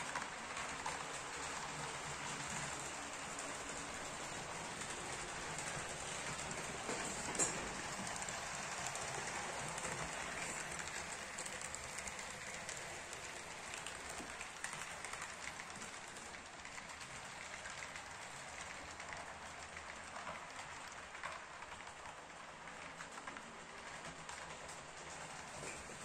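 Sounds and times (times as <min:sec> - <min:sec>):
model train wheels on rails: 0:00.0 - 0:26.0.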